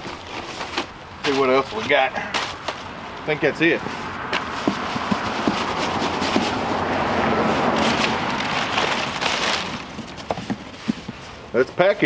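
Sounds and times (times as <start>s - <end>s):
cardboard scraping and rubbing: 0.0s - 2.9s, 3.8s - 11.4s.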